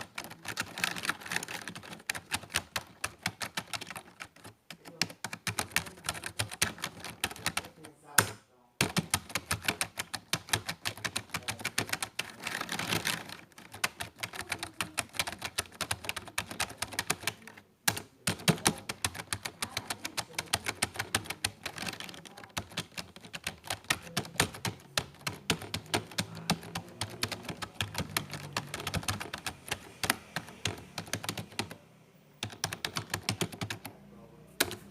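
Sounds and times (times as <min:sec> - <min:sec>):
rapid typing on keyboard: 0:00.0 - 0:34.0, 0:34.6 - 0:34.9.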